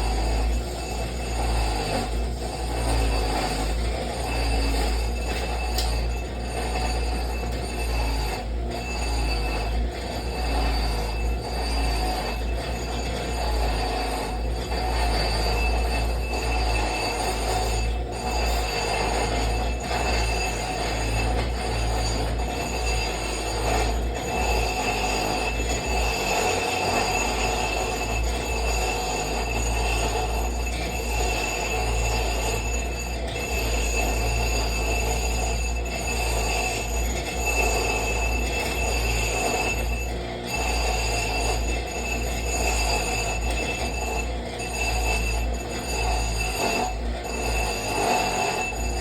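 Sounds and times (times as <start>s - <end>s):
grinder motor hum: 0.0s - 49.0s
high metallic squeal: 0.0s - 49.0s
metalworking machine running: 0.0s - 49.0s.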